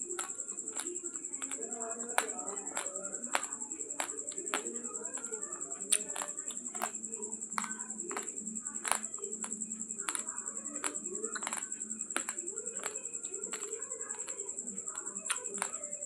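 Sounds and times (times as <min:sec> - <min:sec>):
rice crunched between teeth: 0:00.0 - 0:16.0.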